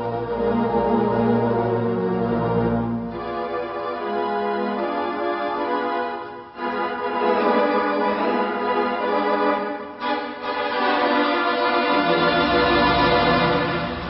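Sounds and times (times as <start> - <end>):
organ playing sustained chords: 0.0 - 14.0.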